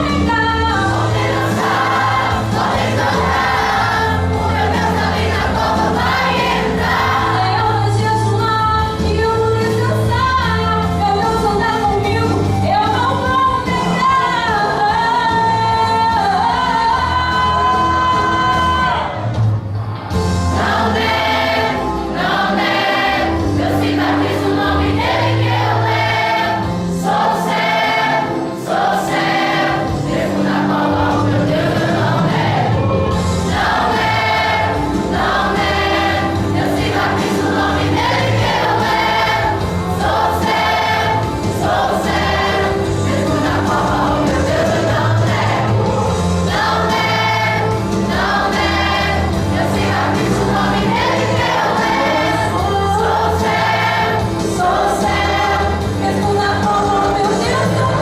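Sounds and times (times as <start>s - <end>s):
gospel choir singing: 0.0s - 11.0s, 11.7s - 58.0s
low instrumental accompaniment: 0.0s - 58.0s.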